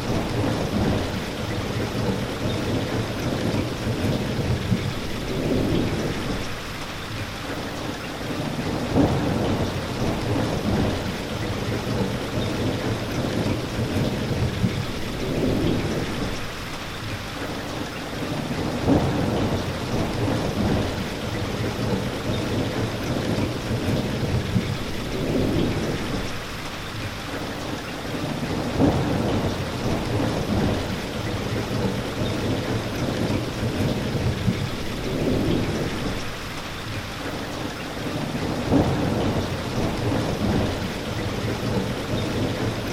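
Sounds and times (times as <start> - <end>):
thunder rumbling: 0.0 - 6.6, 8.7 - 16.6, 18.6 - 26.5, 28.5 - 36.4, 38.4 - 42.9
steady rain: 0.0 - 42.9.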